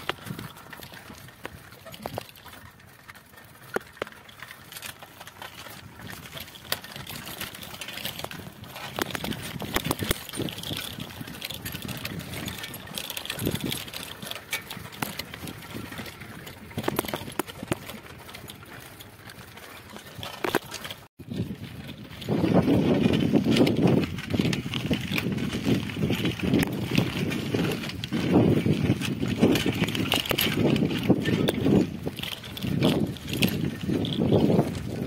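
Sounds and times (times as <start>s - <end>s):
bicycle rattling and knocking: 0.0s - 35.0s.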